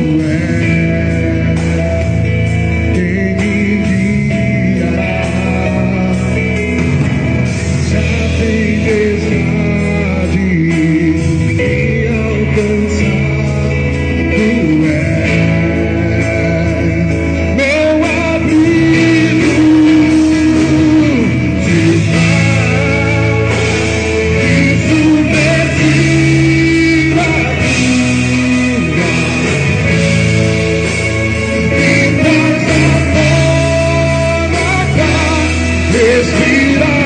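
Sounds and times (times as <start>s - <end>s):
band accompaniment: 0.0s - 37.0s
man singing: 0.0s - 37.0s.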